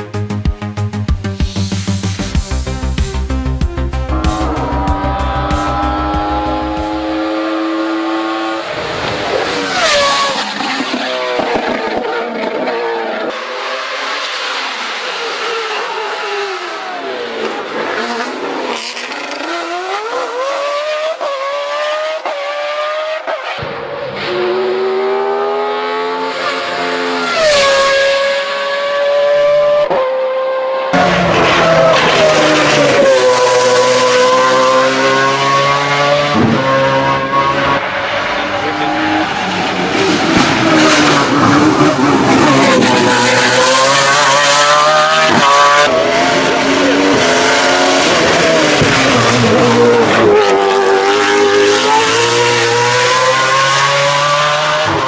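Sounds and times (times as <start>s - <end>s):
race car engine revving: 1.6s - 55.0s.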